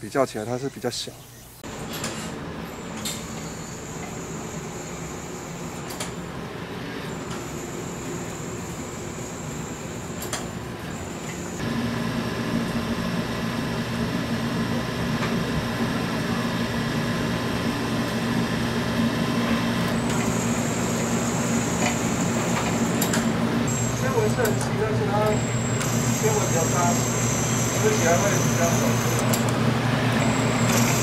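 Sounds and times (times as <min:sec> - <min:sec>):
electric machinery hum: 0:00.5 - 0:31.0.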